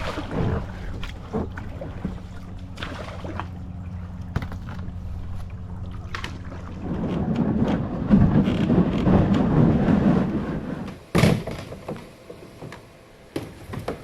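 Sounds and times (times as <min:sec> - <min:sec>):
kayak scraping over ground: 0:00.0 - 0:13.0.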